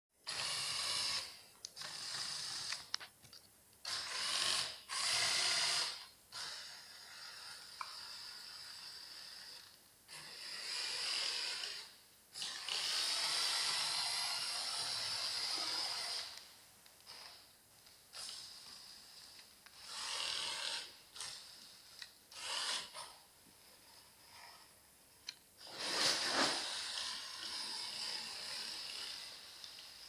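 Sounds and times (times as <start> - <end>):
toy motors whirring with gear noise: 0.2 - 3.1, 3.8 - 23.2, 25.3 - 30.0.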